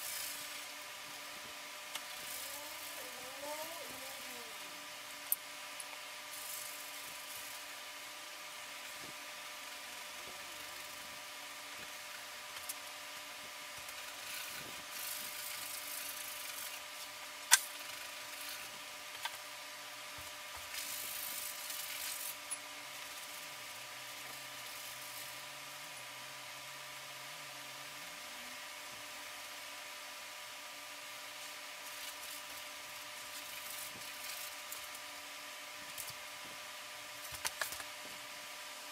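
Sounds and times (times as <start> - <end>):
faint hum: 0.0 - 38.9
steady hiss: 0.0 - 38.9.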